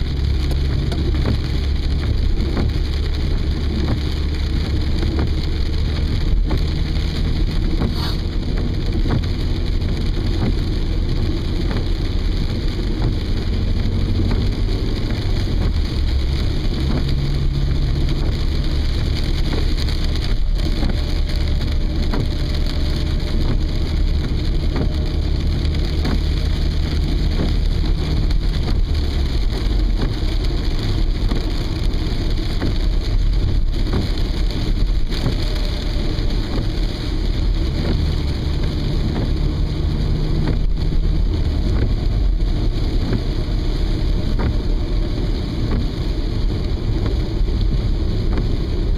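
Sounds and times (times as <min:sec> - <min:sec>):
car engine rumble inside cabin: 0:00.0 - 0:48.9
rain ticking on car: 0:00.0 - 0:48.9.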